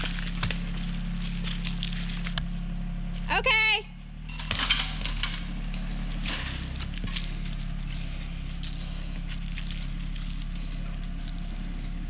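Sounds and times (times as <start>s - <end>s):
tractor diesel engine humming: 0.0s - 12.0s.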